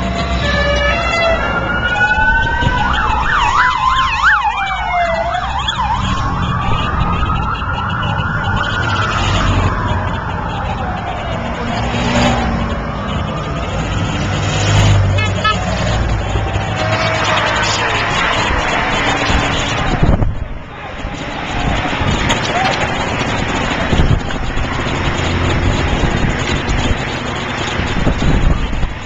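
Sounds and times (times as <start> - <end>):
engines rumbling: 0.0 - 29.0
vehicle sirens wailing and yelping: 0.0 - 29.0.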